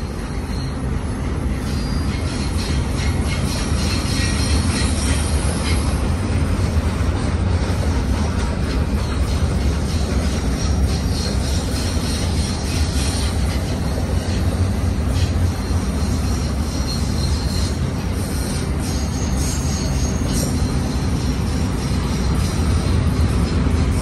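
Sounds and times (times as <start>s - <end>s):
faint wheel squeal: 0.0s - 6.1s, 8.6s - 23.2s
rail cars rumbling past: 0.0s - 24.0s.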